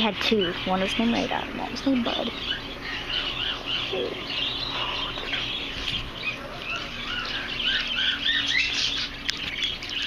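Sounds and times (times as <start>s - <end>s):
caged birds chirping and squawking: 0.0s - 10.0s.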